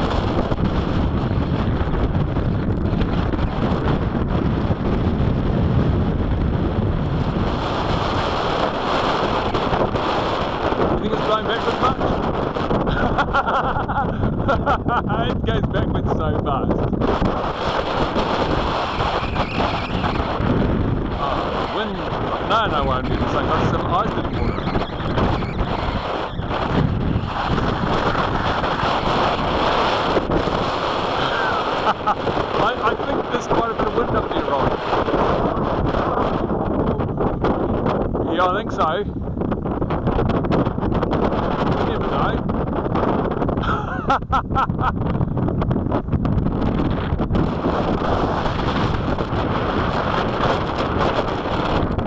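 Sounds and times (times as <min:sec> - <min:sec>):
gusty wind buffeting microphone: 0:00.0 - 0:52.0.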